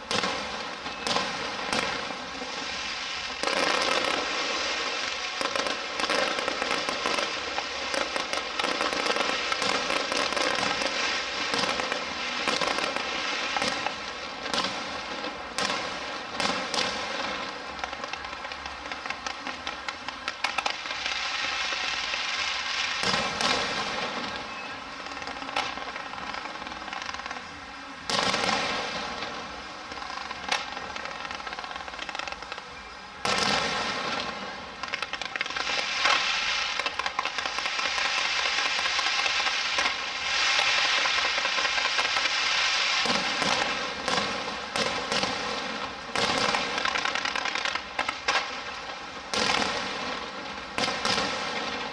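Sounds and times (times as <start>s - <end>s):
heavy firework bangs: 0.0s - 19.6s, 22.9s - 27.3s, 33.2s - 51.9s
fireworks crackling: 0.0s - 51.9s.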